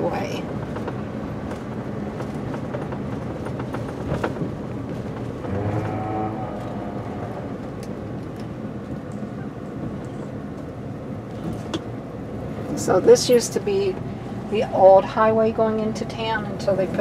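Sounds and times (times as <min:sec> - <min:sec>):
truck engine rumble from cab: 0:00.0 - 0:17.0.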